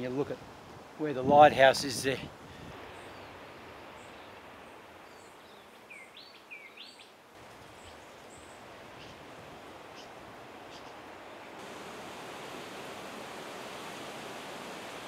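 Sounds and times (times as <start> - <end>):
steady outdoor hiss: 0.0 - 15.0
birds chirping: 2.8 - 15.0.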